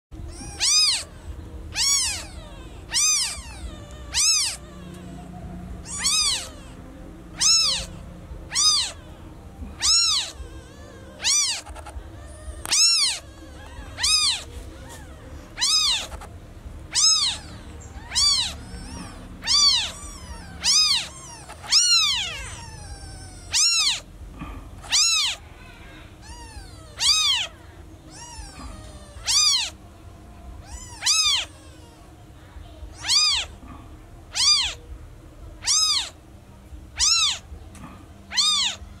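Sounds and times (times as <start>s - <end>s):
kitten meowing: 0.2s - 24.1s, 24.8s - 29.8s, 30.6s - 31.9s, 32.9s - 33.6s, 34.3s - 34.8s, 35.6s - 36.2s, 37.0s - 37.6s, 38.3s - 38.9s.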